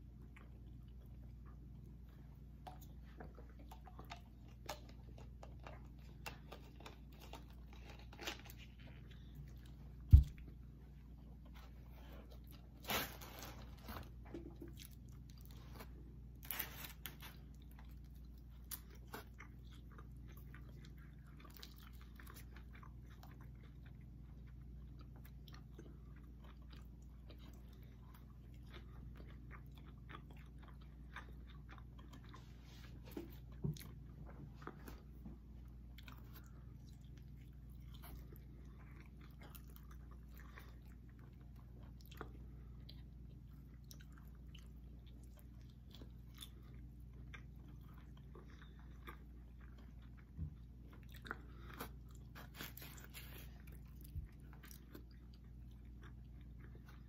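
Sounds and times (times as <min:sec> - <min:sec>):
chewing with wet mouth clicks: 0:00.0 - 0:10.6, 0:17.4 - 0:32.4, 0:33.4 - 0:57.0.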